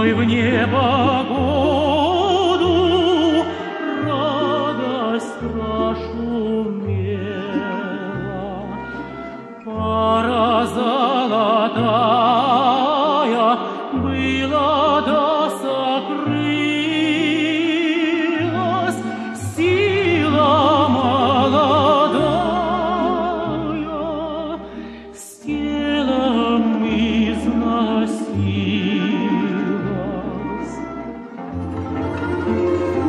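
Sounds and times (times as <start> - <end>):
man singing with wide vibrato: 0.0 - 33.0.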